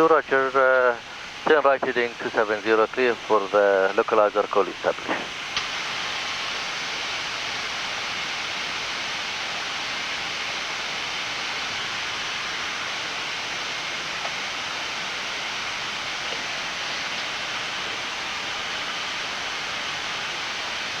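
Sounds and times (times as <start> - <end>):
rushing air hiss in cockpit: 0.0 - 21.0.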